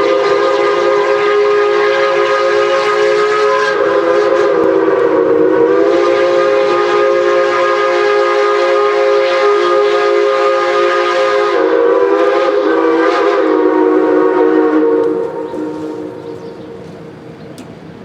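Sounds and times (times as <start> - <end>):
steam locomotive whistle: 0.0 - 17.3.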